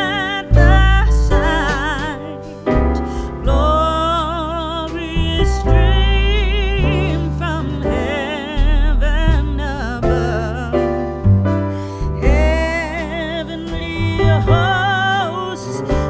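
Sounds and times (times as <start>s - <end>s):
wavering melody over deep bass: 0.0s - 16.0s.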